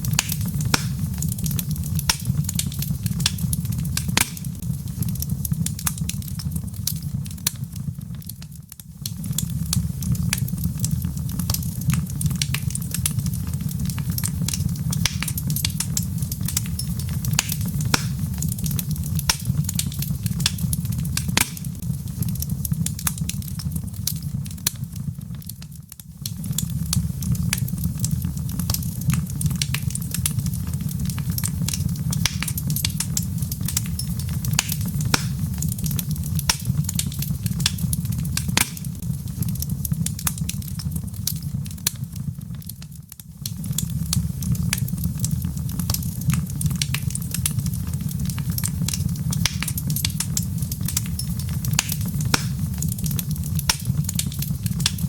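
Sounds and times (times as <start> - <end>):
low fire rumble: 0.0 - 55.0
wood fire crackling and popping: 0.0 - 55.0.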